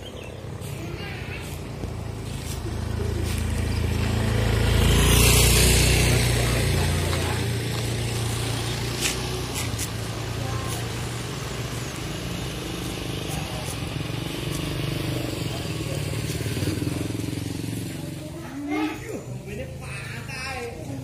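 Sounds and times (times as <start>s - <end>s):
low engine hum: 0.0s - 18.6s
vehicle engine passing by: 0.0s - 21.0s.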